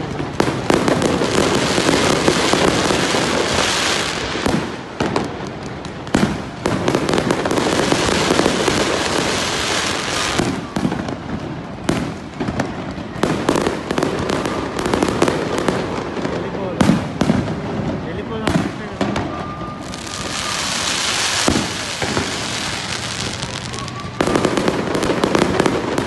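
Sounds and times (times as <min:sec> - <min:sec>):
firework bangs: 0:00.0 - 0:26.0
fireworks crackling: 0:00.0 - 0:26.0.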